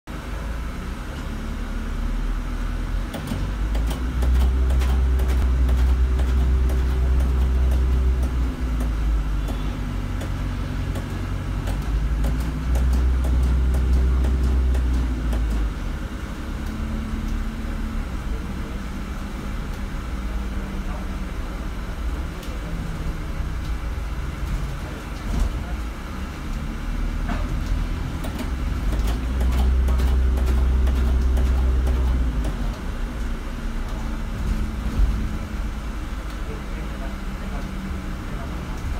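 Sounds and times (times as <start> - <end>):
bus running noise: 0.1 - 38.9.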